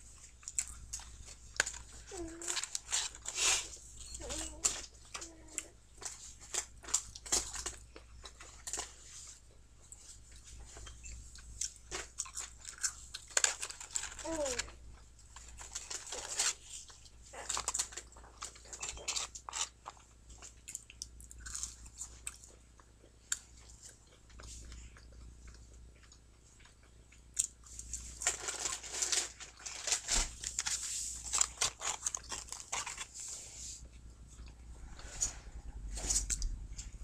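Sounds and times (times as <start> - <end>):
rustling and handling: 0.0 - 20.5, 27.6 - 37.0
chewing french fries: 0.0 - 37.0.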